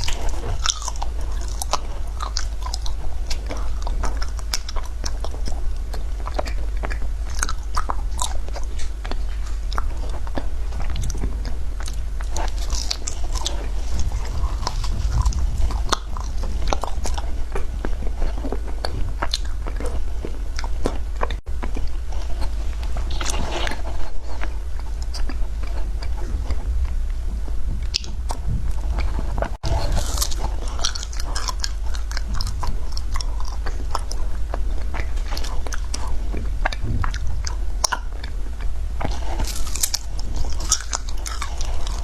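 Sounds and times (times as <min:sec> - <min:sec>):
person chewing crunchy ice: 0:00.0 - 0:27.0, 0:27.8 - 0:42.0.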